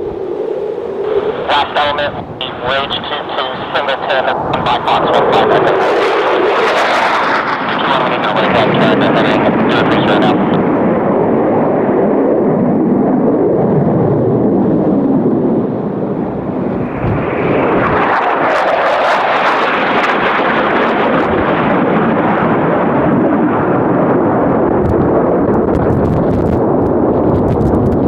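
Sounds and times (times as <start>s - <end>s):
jet roaring past: 0.0s - 28.0s.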